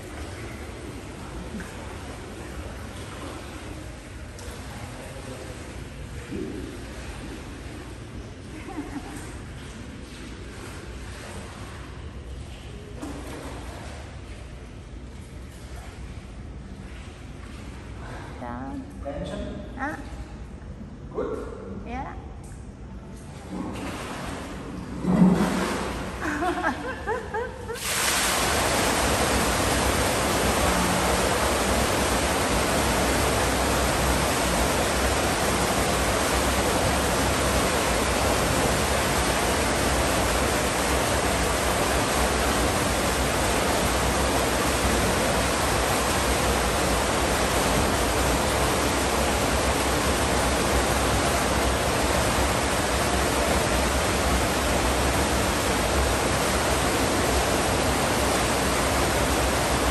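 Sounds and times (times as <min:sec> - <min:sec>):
fountain water pouring into pool: 0:00.0 - 0:18.2, 0:23.3 - 0:59.9.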